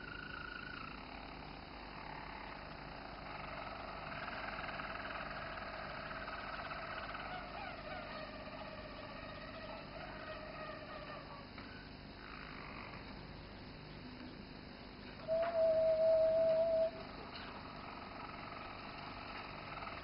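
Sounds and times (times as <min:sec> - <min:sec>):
canary singing trills: 0:00.0 - 0:14.5, 0:15.1 - 0:20.0.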